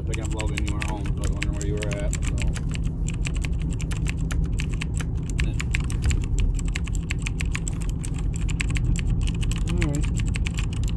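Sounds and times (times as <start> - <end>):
keyboard typing: 0.0 - 10.9
low hum: 0.0 - 10.9.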